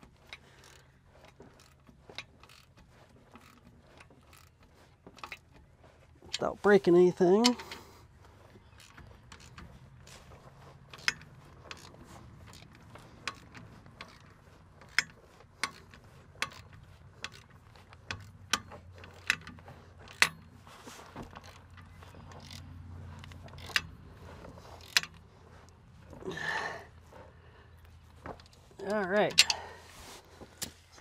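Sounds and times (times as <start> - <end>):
ratchet wrench clicking: 0.2 - 5.5, 7.4 - 20.6, 21.2 - 26.7, 28.4 - 29.8.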